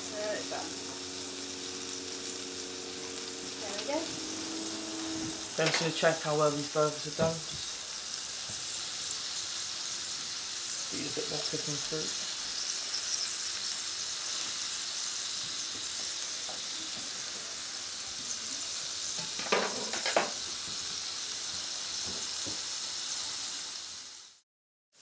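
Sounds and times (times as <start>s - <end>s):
patties sizzling in a frying pan: 0.0s - 24.4s.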